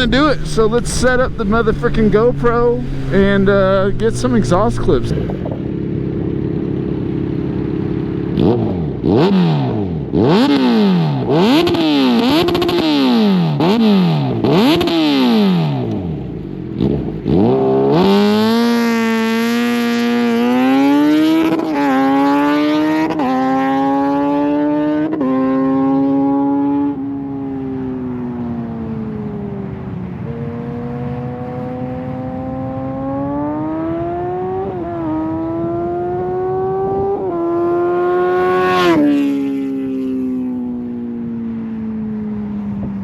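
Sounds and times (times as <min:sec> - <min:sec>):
motorcycle engine revving: 0:00.0 - 0:41.0
motorcycle accelerating with gear shifts: 0:00.0 - 0:43.0.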